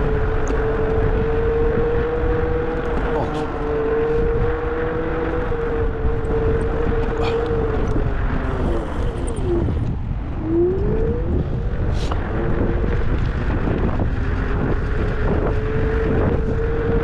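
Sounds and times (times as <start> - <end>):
road and wind rumble: 0.0 - 17.0
vehicle motor whine: 0.0 - 17.0.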